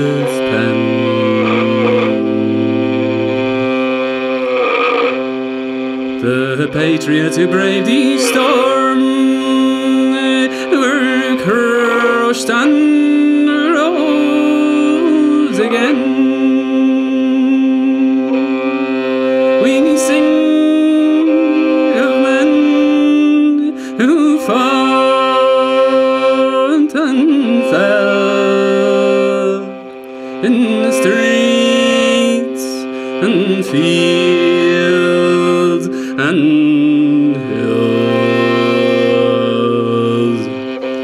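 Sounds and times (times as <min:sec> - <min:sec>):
fiddle playing slow air: 0:00.0 - 0:41.0
person singing: 0:00.0 - 0:41.0.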